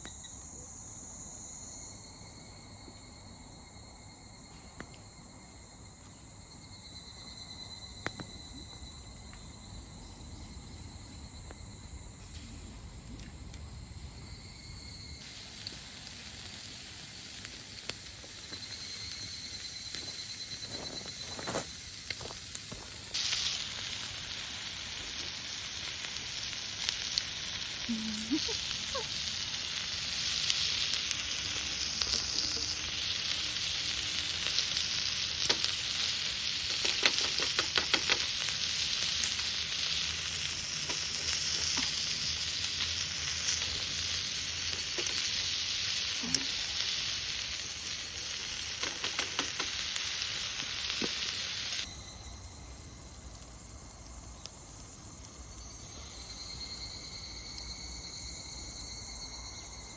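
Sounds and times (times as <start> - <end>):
food sizzling over campfire: 5.1 - 59.9
crackles and pops: 10.4 - 58.9.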